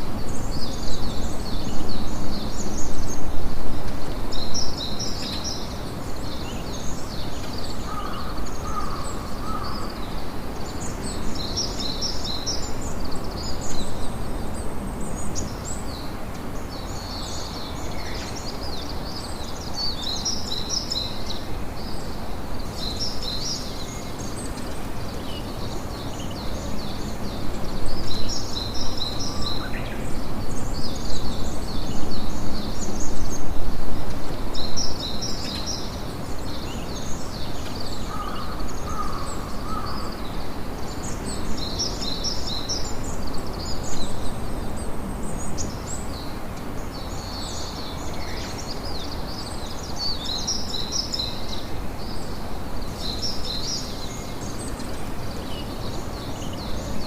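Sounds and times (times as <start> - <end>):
steady noisy ambience: 0.0 - 57.0.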